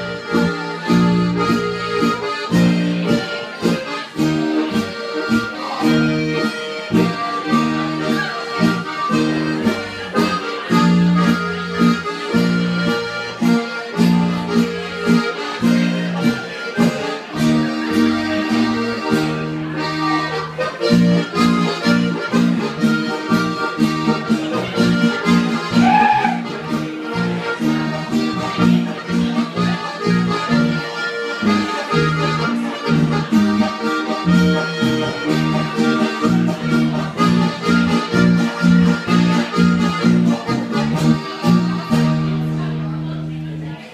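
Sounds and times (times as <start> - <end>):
accordions playing: 0.0 - 43.8
acoustic guitar: 0.0 - 43.9
keyboard: 0.0 - 43.9.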